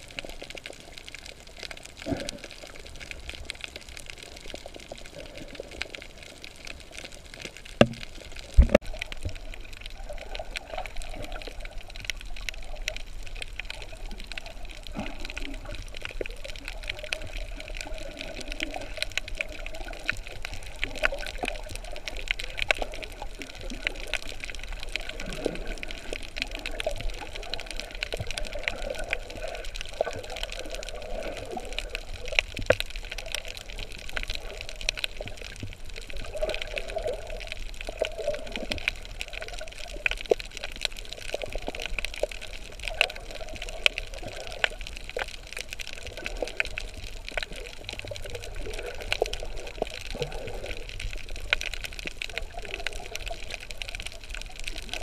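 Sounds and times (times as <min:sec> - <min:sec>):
sharp underwater clicks and crackles: 0:00.0 - 0:55.0
underwater swishing wash: 0:00.0 - 0:55.0.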